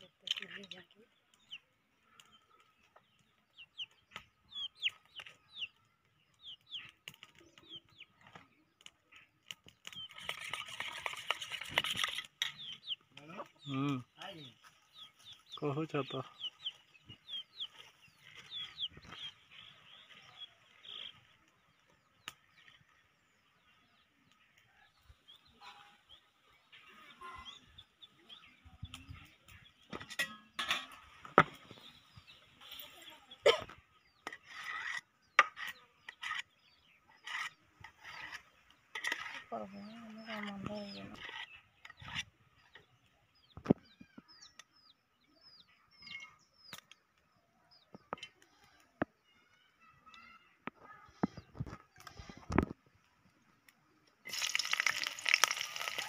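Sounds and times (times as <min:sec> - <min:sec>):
birds chirping faintly: 0:00.0 - 0:56.0.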